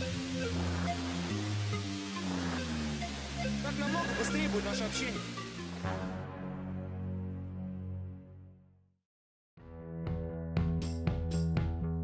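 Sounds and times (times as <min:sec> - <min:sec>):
background music bass and chords: 0:00.0 - 0:08.5, 0:09.6 - 0:12.0.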